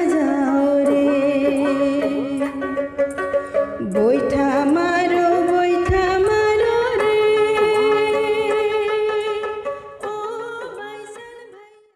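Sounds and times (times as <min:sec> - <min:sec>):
instrumental backing music: 0:00.0 - 0:11.9.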